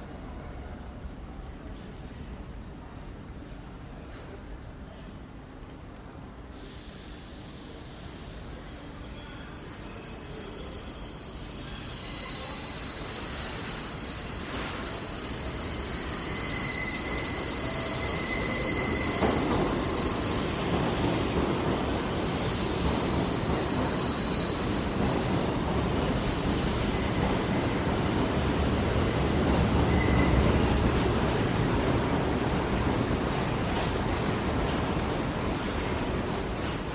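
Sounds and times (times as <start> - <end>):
train wheels squealing on rails: 6.5 - 36.9.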